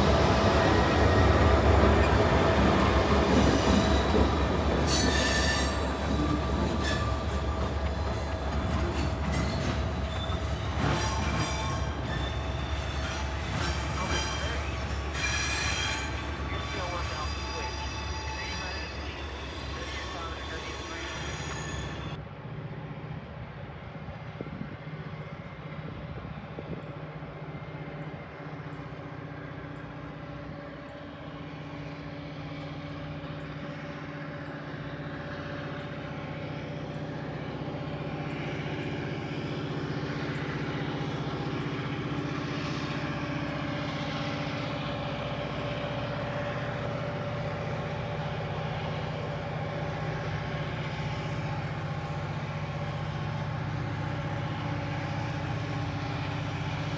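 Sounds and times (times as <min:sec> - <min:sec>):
diesel locomotive engine drone: 0:00.0 - 0:56.9.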